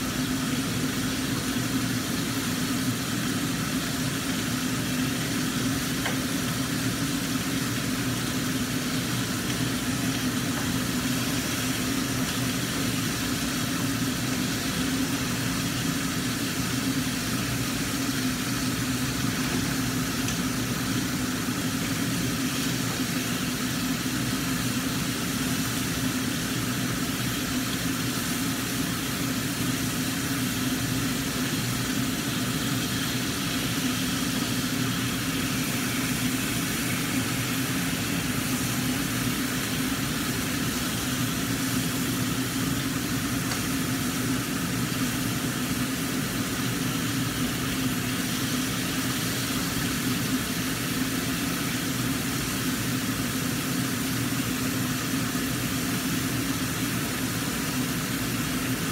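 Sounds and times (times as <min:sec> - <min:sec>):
fish frying in oil: 0:00.0 - 0:58.9
range hood fan humming: 0:00.0 - 0:58.9.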